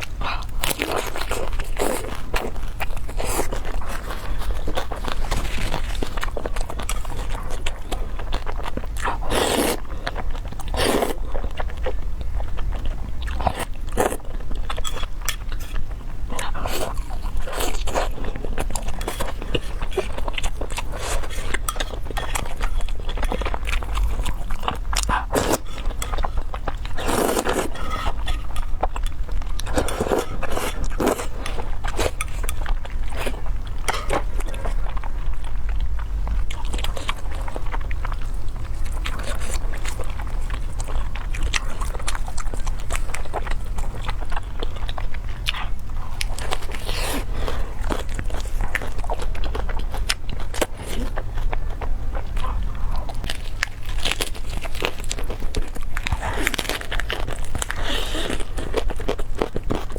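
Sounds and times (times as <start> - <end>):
person chewing and crunching: 0.0 - 59.9.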